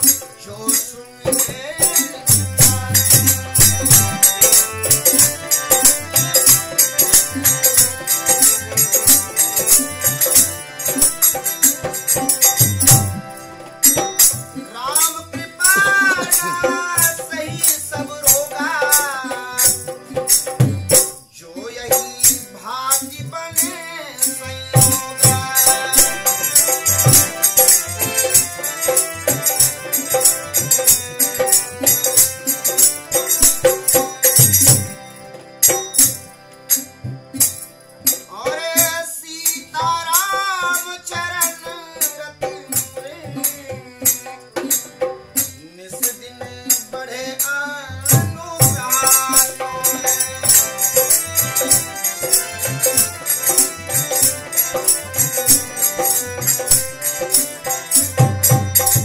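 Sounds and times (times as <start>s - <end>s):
harmonium: 0.0s - 59.0s.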